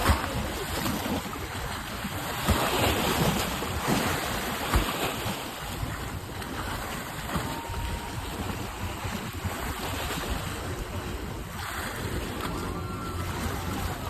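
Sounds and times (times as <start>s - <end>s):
waves breaking: 0.0s - 14.0s
wind buffeting microphone: 0.0s - 14.0s.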